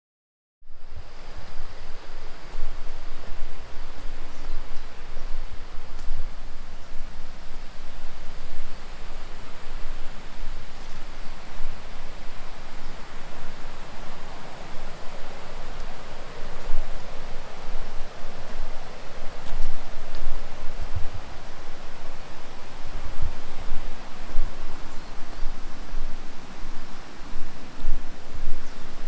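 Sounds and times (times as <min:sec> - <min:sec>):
rushing hiss: 0:00.9 - 0:29.0.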